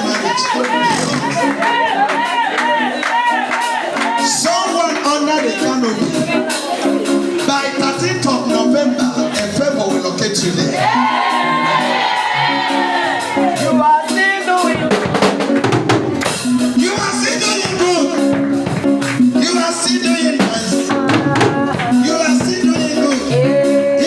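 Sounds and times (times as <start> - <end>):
drum kit beating: 0.0 - 24.0
sustained keyboard notes: 0.0 - 24.0
voices singing: 0.0 - 24.0.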